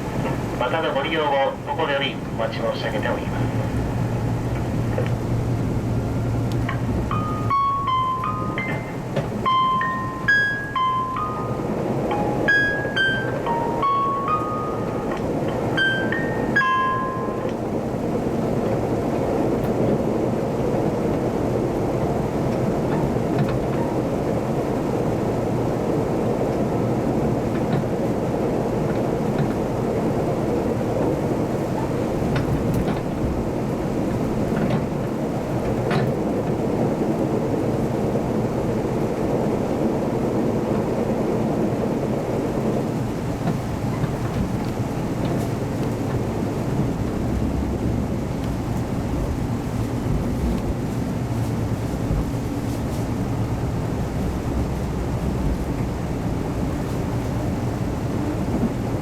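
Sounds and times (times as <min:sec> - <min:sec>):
railcar engine and wheels rumbling: 0:00.0 - 0:59.0.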